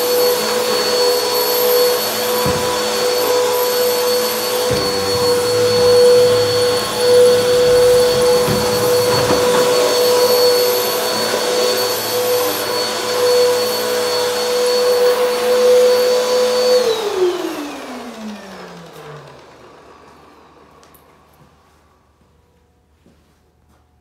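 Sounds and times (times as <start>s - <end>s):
vacuum cleaner whining: 0.0s - 22.3s.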